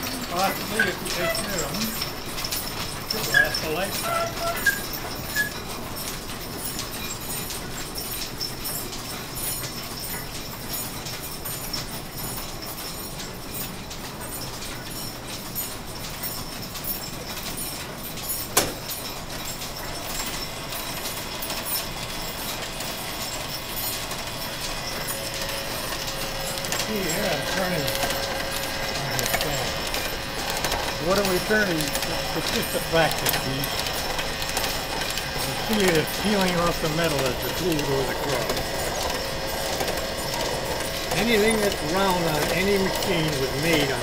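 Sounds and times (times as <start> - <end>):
belts and pulleys clattering: 0.0 - 44.0.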